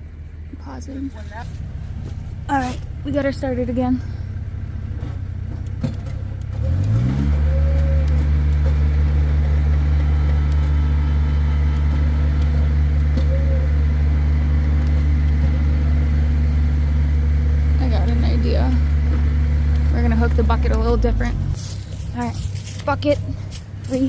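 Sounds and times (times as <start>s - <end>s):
another engine idling: 0.0s - 24.0s
skid steer engine starting: 1.4s - 24.0s.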